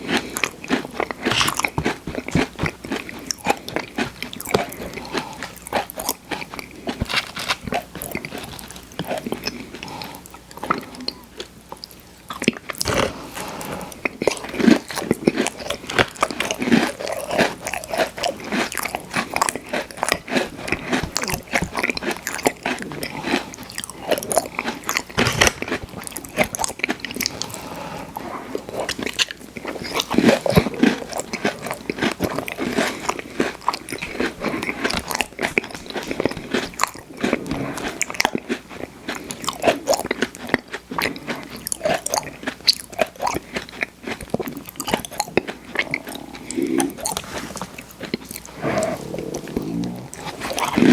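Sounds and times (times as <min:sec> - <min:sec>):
crunchy cookies being chewed: 0:00.0 - 0:50.9.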